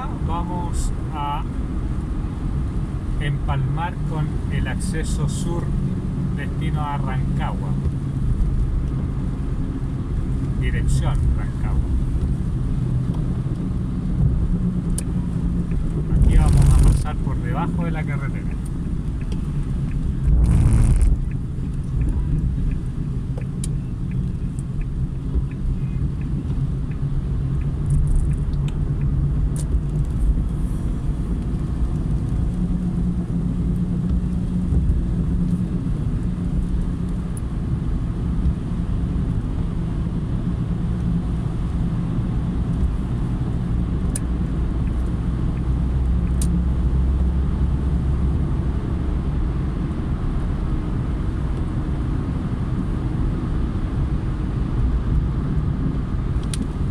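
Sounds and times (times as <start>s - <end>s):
car engine and tyre rumble: 0.0s - 56.9s.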